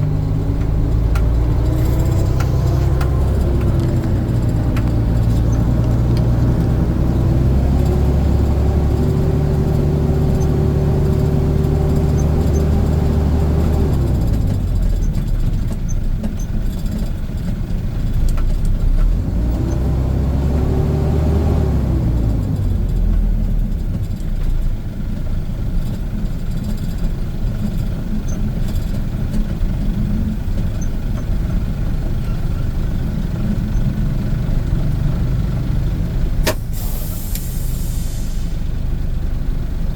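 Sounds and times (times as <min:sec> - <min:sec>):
diesel truck engine revving: 0:00.0 - 0:15.5, 0:18.8 - 0:26.1, 0:29.0 - 0:39.9.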